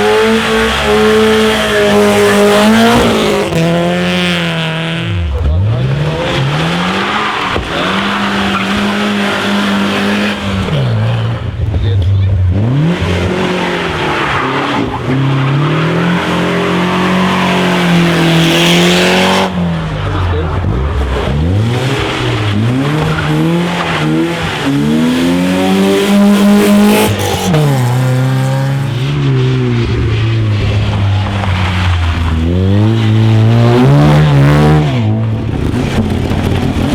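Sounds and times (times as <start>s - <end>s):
rally car engine revving: 0.0s - 36.9s.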